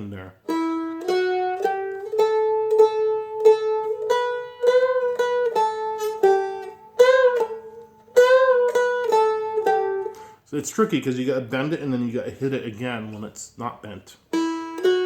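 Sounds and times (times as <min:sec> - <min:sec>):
dulcimer melody with string bends: 0:00.0 - 0:13.3, 0:14.3 - 0:15.0.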